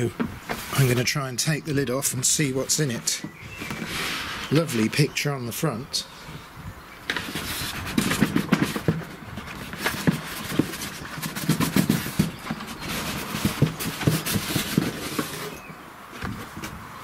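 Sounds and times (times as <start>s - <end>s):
cardboard scraping and rubbing: 0.0s - 1.2s, 1.8s - 5.0s, 7.1s - 16.8s.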